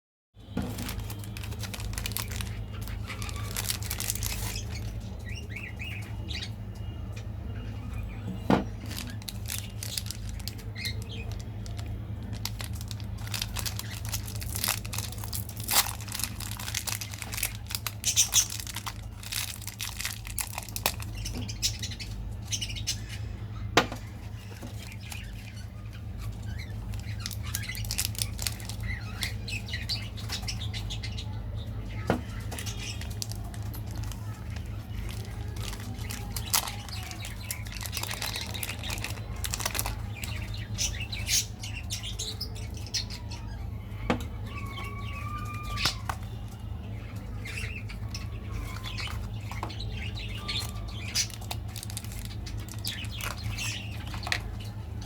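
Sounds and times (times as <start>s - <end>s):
plastic wrappers crinkling: 0.5s - 5.6s, 8.4s - 22.1s, 23.9s - 30.9s, 31.9s - 43.1s, 44.6s - 55.0s.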